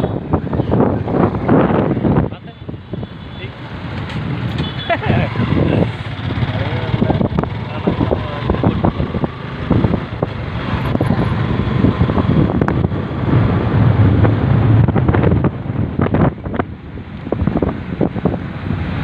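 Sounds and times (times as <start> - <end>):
wind buffeting microphone: 0.0 - 3.2, 3.9 - 19.0.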